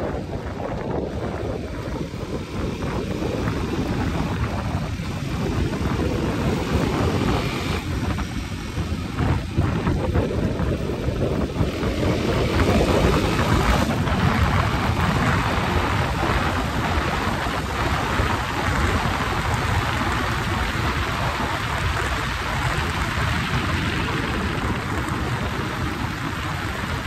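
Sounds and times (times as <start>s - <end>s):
motorcycle ride rumble: 0.0s - 27.0s
wind buffeting microphone: 0.0s - 27.0s.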